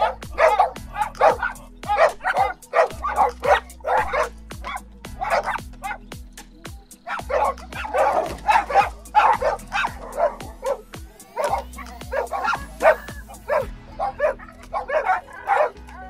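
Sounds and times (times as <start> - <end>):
dog barks and yips: 0.0 - 6.0, 7.0 - 16.0
music with steady beat: 0.0 - 16.0.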